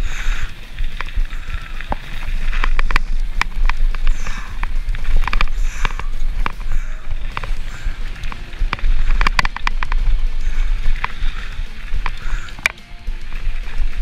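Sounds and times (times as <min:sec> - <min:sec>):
bike clicks and rattles: 0:00.0 - 0:14.0
bike tyre noise: 0:00.0 - 0:14.0
wind rumbling on microphone: 0:00.0 - 0:14.0.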